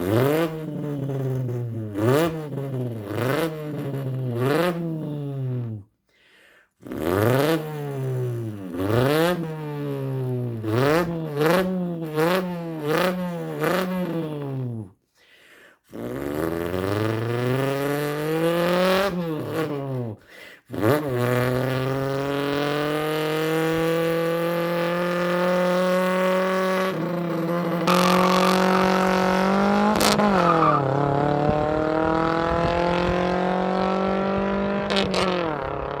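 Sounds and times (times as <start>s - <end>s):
person imitating car engine: 0.0s - 5.9s, 6.8s - 15.0s, 15.9s - 36.0s.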